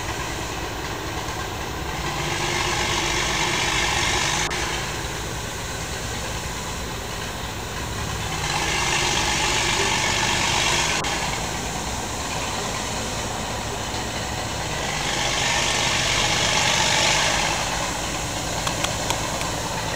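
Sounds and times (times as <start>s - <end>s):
truck engine idling: 0.0s - 19.9s.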